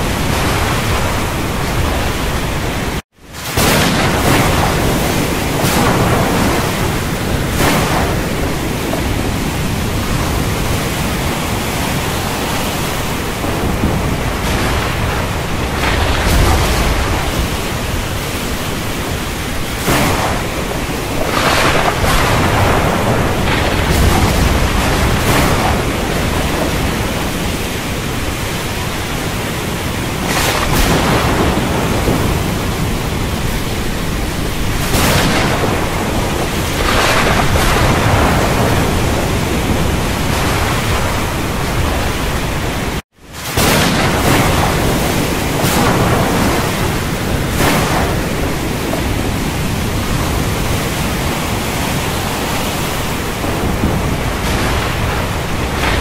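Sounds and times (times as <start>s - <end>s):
rushing storm noise: 0.0s - 56.0s
thunder rolling: 0.0s - 56.0s.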